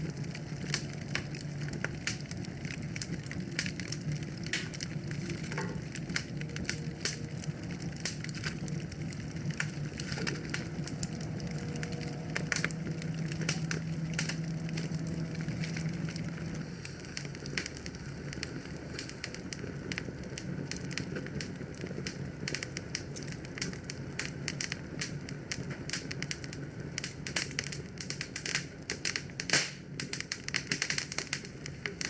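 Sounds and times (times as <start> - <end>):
low steady rumble: 0.0 - 26.4
wood fire crackling and popping: 0.0 - 32.0.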